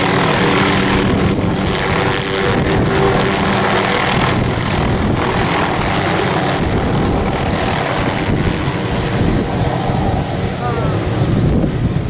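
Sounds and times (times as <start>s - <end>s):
helicopter engine and rotor: 0.0s - 12.0s
wind on microphone: 0.0s - 12.0s.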